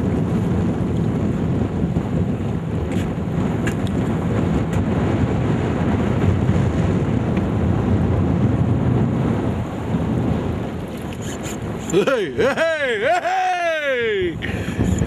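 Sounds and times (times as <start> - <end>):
boat noise: 0.0 - 15.0
water: 0.0 - 15.0
wind rumbling on microphone: 0.0 - 15.0.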